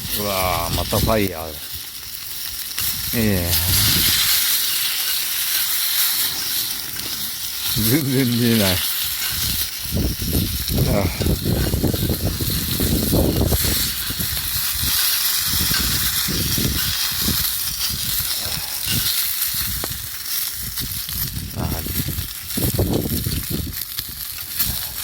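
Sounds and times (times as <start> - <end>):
meat sizzling over campfire: 0.0 - 25.0.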